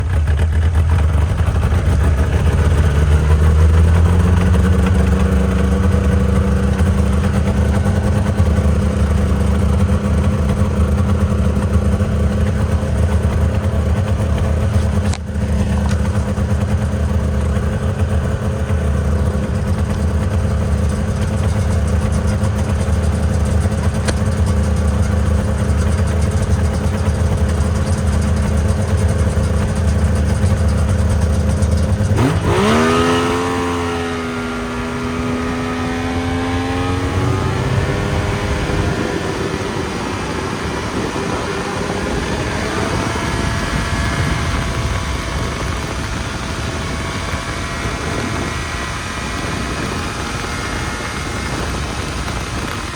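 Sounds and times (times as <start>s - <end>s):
snowmobile engine running: 0.0s - 52.9s.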